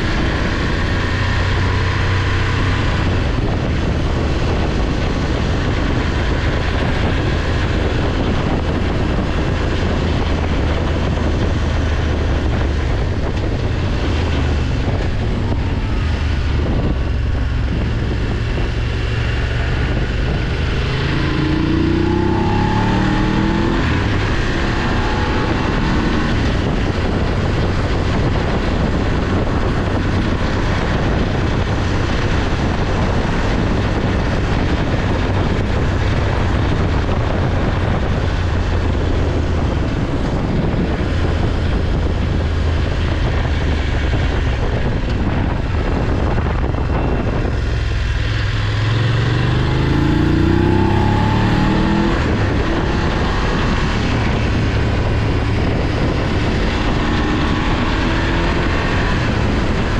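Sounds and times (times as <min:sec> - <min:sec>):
motorcycle engine running: 0:00.0 - 0:59.9
wind rushing: 0:00.0 - 0:59.9.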